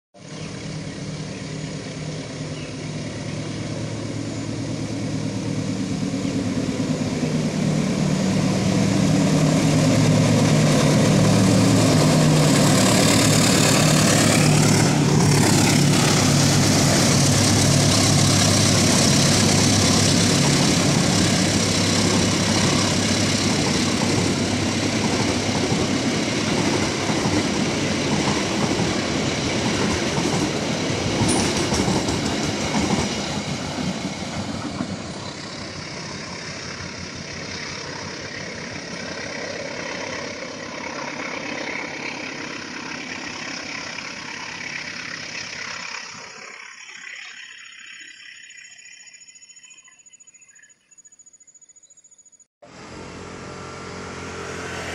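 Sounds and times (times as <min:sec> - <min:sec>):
diesel locomotive engine: 0:00.2 - 0:50.0, 0:52.6 - 0:54.9
train wheels rumbling on rails: 0:00.3 - 0:47.5.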